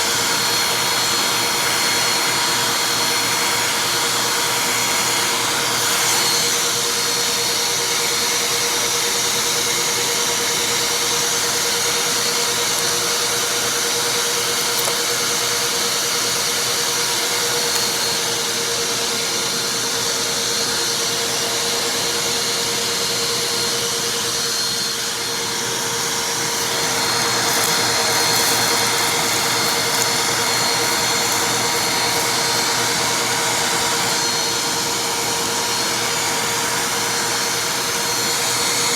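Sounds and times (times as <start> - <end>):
vacuum cleaner humming: 0.0 - 38.9.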